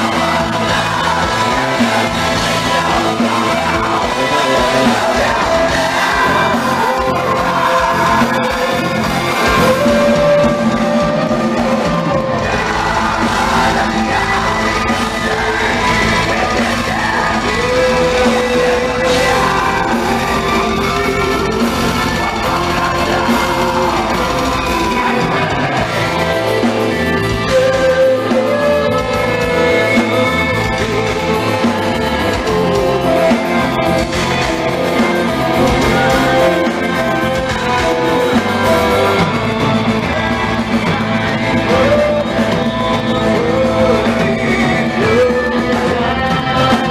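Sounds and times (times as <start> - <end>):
metal band playing live: 0.0 - 46.9.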